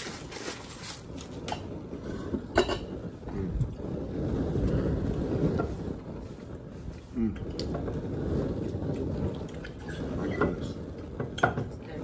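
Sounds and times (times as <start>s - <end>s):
low rumble: 1.4s - 11.2s.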